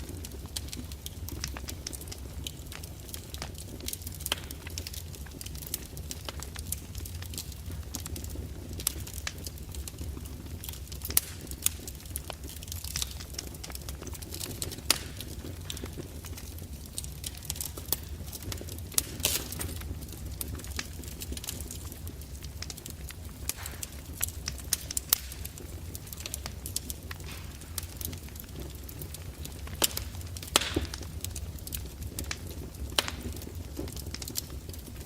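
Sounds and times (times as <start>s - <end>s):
fireplace crackling: 0.0s - 35.0s.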